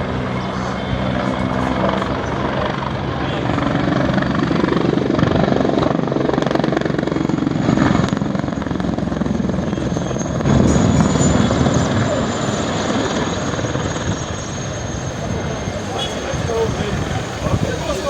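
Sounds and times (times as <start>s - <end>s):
helicopter rotor chopping: 0.0s - 18.0s
turbine whine: 0.0s - 18.0s.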